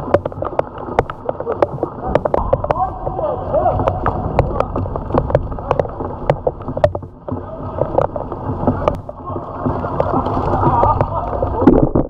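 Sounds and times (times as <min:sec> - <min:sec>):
raindrops tapping on camera: 0:00.0 - 0:12.0
torrential rain: 0:00.0 - 0:12.0.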